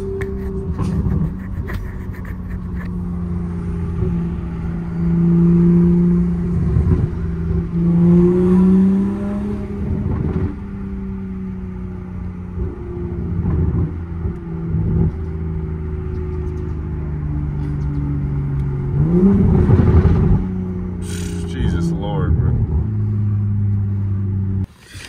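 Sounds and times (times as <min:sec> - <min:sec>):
car engine accelerating: 0:00.0 - 0:24.7
road rumble: 0:00.0 - 0:25.0.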